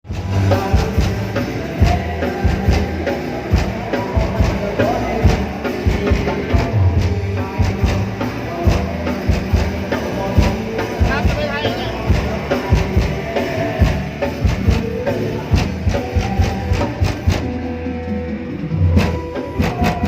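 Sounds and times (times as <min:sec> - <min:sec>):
loud music with heavy drum beat: 0:00.0 - 0:20.0.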